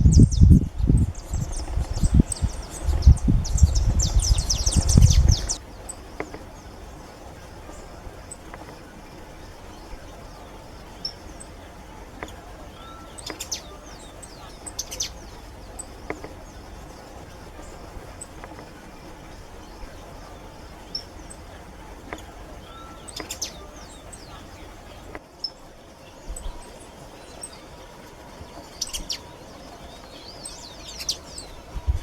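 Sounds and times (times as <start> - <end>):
finches twittering: 0.0 - 32.0.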